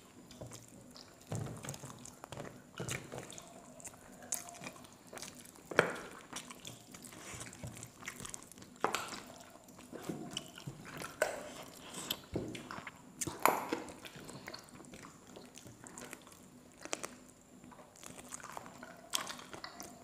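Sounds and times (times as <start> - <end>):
chewing and biting: 0.0 - 20.0
wet squishing of food by hand: 0.0 - 20.0.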